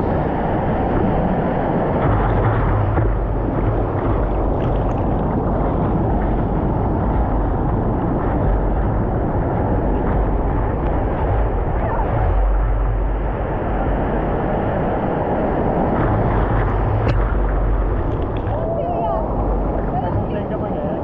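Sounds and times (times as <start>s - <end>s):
vehicle rumbling in motion: 0.0s - 21.0s.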